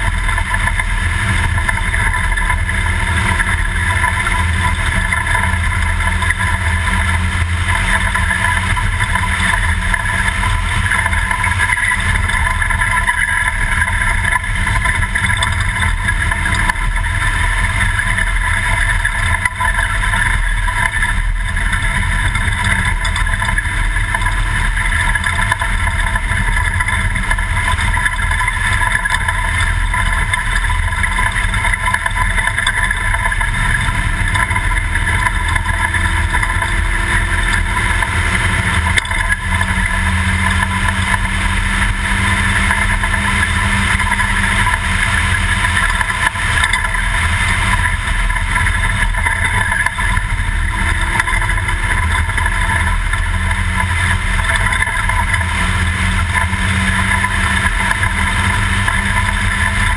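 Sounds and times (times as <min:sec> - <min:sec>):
rumble from rough ground: 0:00.0 - 0:59.9
truck engine and drivetrain: 0:00.0 - 0:59.9.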